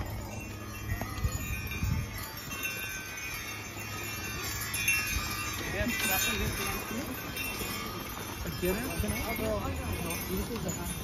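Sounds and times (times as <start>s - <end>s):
hooves and wagon wheels thudding: 0.0s - 11.0s
horse bells jingling: 0.0s - 11.0s.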